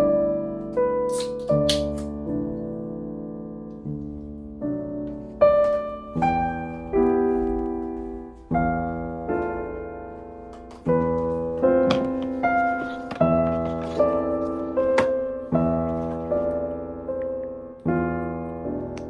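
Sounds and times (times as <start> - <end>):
slow soft piano chords: 0.0 - 19.0.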